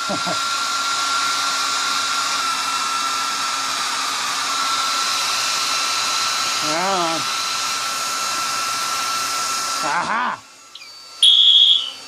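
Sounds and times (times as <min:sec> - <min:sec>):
hair dryer blowing with whine: 0:00.0 - 0:12.0.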